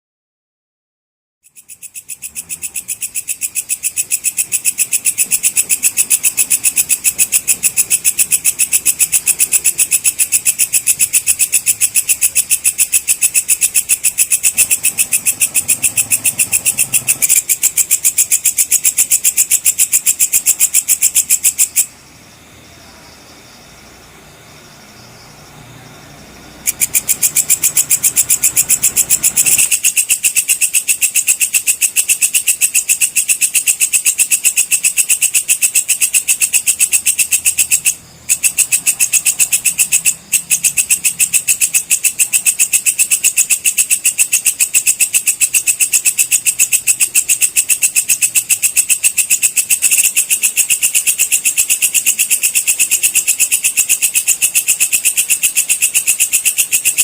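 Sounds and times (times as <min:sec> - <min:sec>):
insect chirping pulses: 0:01.4 - 0:57.0.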